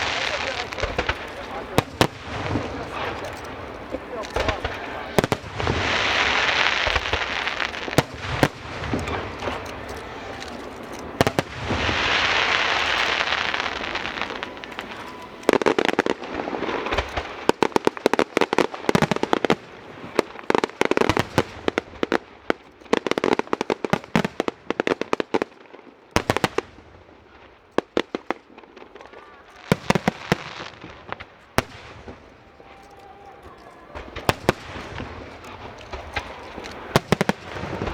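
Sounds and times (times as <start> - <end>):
fireworks crackling pops: 0.0 - 37.9
hissing crackling firework bursts: 0.0 - 37.9.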